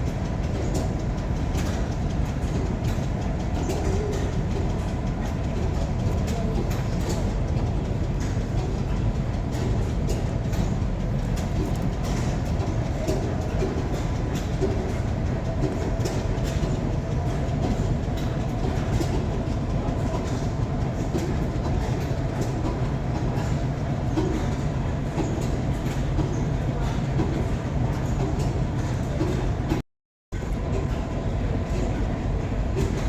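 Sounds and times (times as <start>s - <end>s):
machinery rumbling: 0.0s - 29.8s.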